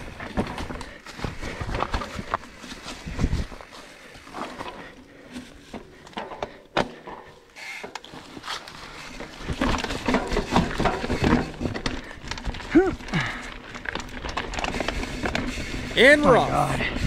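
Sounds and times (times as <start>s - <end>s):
shoes on rocky trail: 0.0s - 7.4s, 8.0s - 17.0s
mountain bike rattling on rocky trail: 0.0s - 17.0s.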